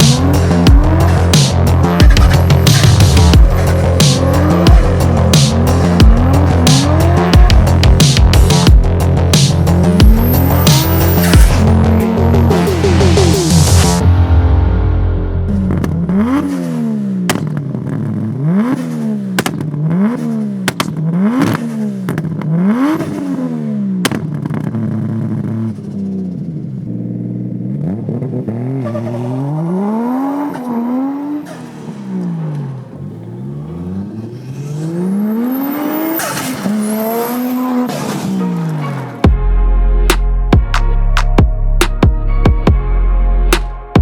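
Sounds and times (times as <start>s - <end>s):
car engine revving: 0.0s - 39.4s.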